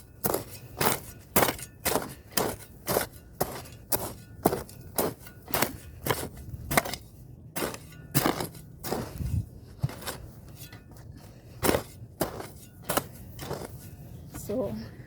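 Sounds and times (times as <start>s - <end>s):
hoe chopping into soil: 0.0s - 10.8s, 11.5s - 13.8s.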